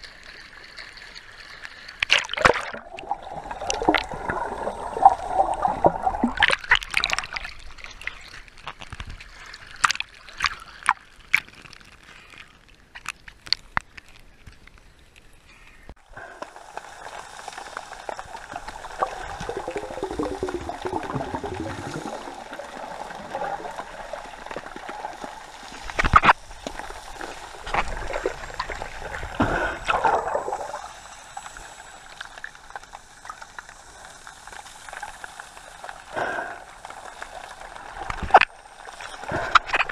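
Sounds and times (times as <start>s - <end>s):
water sloshing and gurgling: 0.0s - 14.2s, 16.0s - 33.6s, 34.9s - 39.9s
water splashes: 0.0s - 14.7s, 16.0s - 39.9s.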